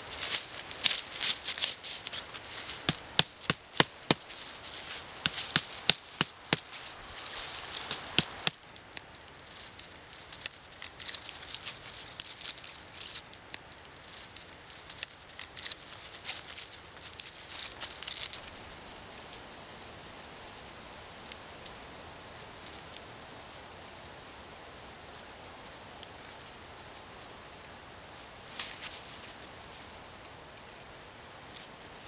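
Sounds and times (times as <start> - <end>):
rustling of leaves and stems: 0.0 - 32.0.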